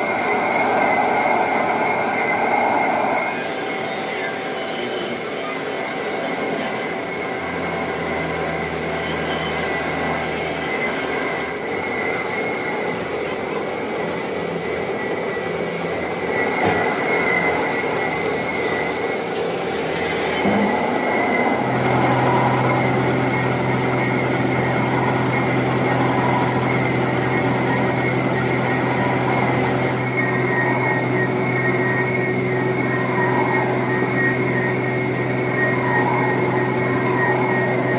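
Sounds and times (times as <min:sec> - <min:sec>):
machine running hum: 0:00.0 - 0:37.9
lathe tool squealing on metal: 0:01.8 - 0:37.9.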